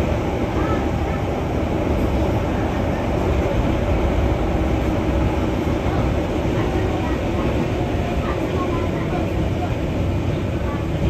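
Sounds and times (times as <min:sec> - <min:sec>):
electric train rumbling on rails: 0:00.0 - 0:11.0.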